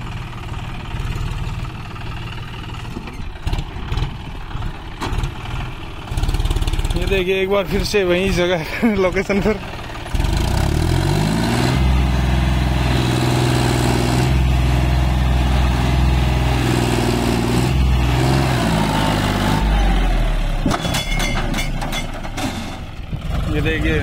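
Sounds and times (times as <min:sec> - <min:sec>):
tractor diesel engine revving: 0:00.0 - 0:24.0.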